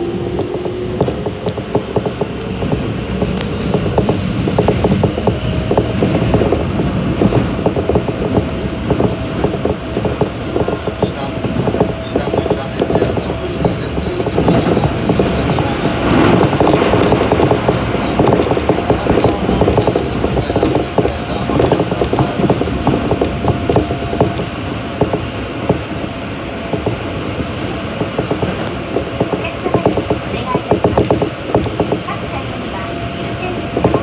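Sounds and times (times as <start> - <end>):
faint steady traction tone: 0.0 - 34.0
train wheel rolling noise: 0.0 - 34.0
clicks and rattles: 0.2 - 25.9, 26.6 - 32.1, 33.6 - 34.0.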